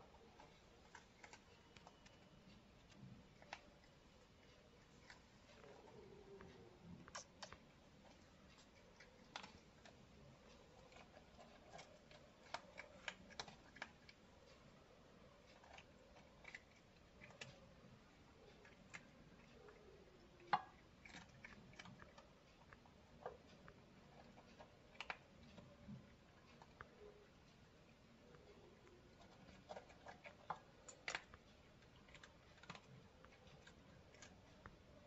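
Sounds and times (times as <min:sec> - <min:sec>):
kitten crunching dry food: 0:00.1 - 0:27.0, 0:28.4 - 0:34.8.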